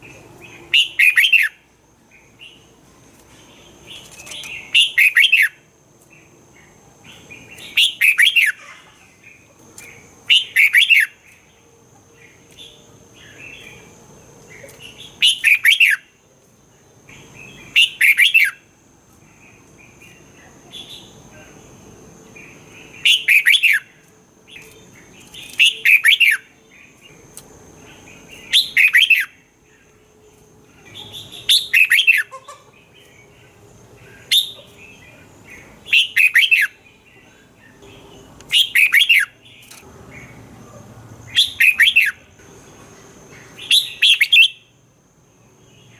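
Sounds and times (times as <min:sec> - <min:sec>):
bird singing warbled phrases: 0:00.0 - 0:30.0, 0:30.6 - 0:44.8.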